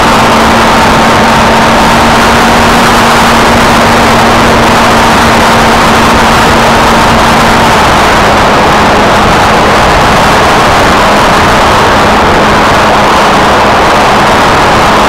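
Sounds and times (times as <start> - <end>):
electric motor and propeller drone: 0.0 - 15.0
rush of airflow: 0.0 - 15.0.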